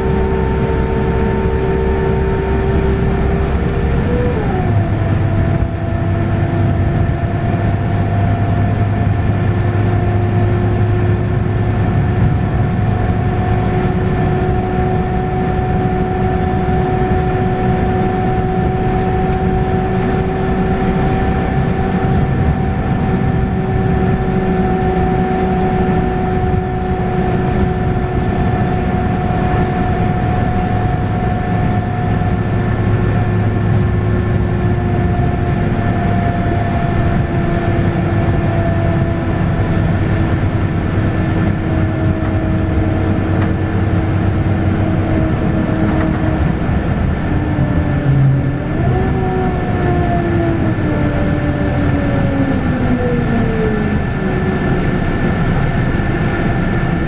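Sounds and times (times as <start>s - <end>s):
bus interior low hum: 0.0s - 57.0s
gearbox whine: 0.0s - 57.0s.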